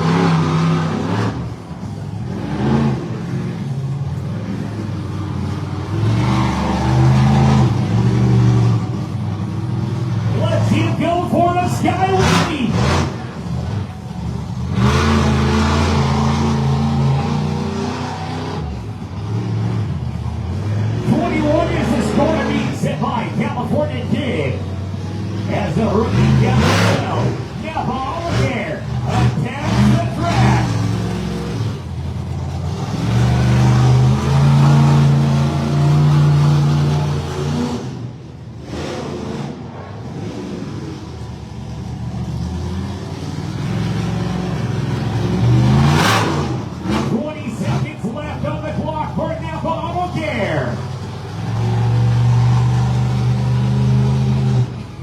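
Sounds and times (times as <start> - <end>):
monster truck engine at full throttle: 0.0 - 55.0.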